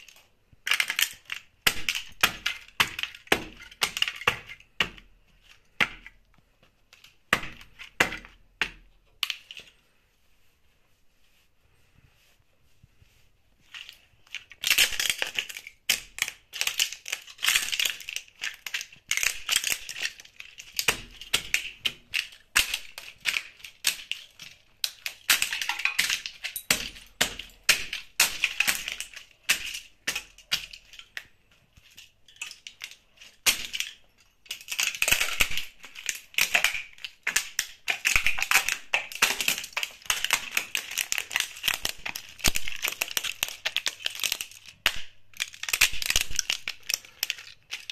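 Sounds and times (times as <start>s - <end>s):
plastic cracking under shoes: 0.0s - 9.8s, 13.7s - 47.9s.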